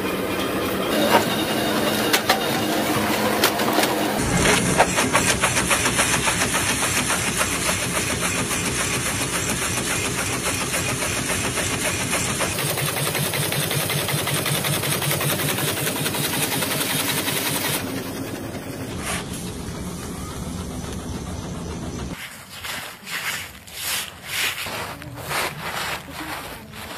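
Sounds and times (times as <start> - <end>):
machinery clattering: 0.0 - 22.2.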